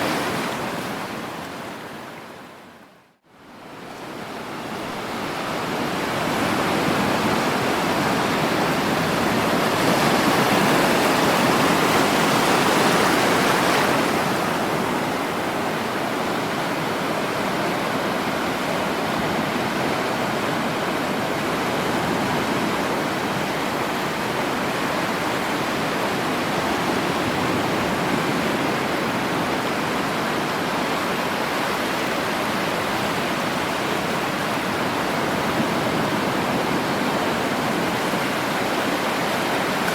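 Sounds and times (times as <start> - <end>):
sea waves washing on shore: 0.0 - 2.5, 3.7 - 39.9.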